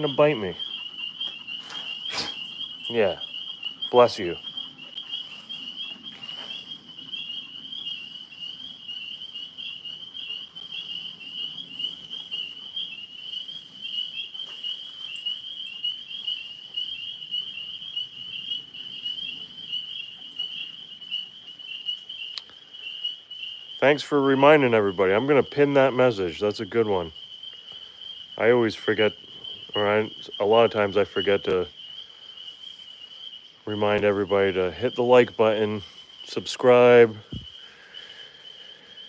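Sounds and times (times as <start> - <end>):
tree frogs trilling: 0.0 - 39.0.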